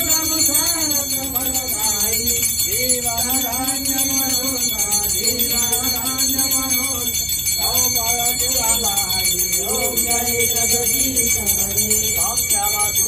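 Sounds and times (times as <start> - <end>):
devotional singing: 0.0 - 13.0
small bell ringing: 0.0 - 13.0.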